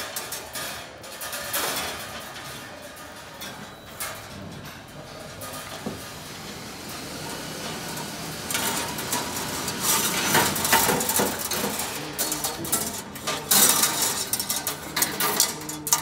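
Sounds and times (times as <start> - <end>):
wire clinking and scraping: 0.0 - 5.8, 7.9 - 16.0.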